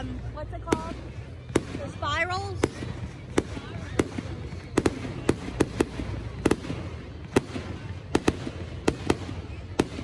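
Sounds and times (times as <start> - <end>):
fireworks bangs: 0.7 - 10.0.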